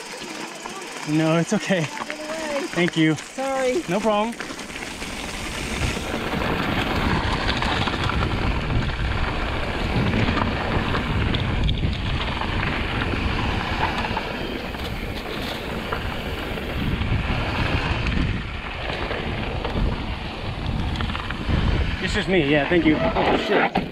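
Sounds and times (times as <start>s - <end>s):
bike tyres rumbling on dirt: 0.0s - 23.9s
wind rushing over microphone: 2.8s - 23.9s.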